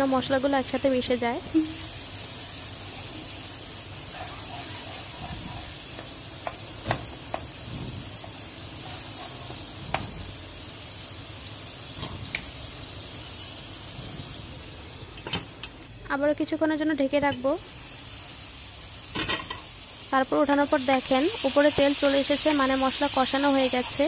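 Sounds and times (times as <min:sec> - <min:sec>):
masala sizzling in oil: 0:00.0 - 0:24.0.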